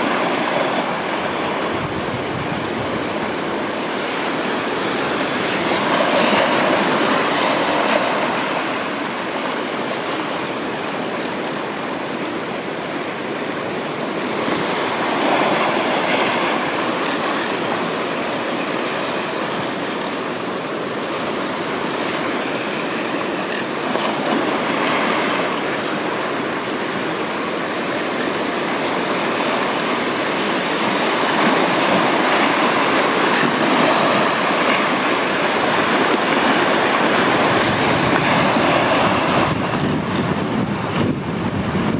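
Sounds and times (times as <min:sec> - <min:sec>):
surf breaking over rocks: 0:00.0 - 0:41.9.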